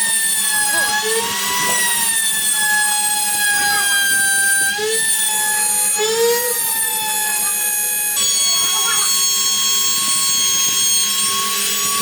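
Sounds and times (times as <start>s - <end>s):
power tool motor whining: 0.0s - 12.0s.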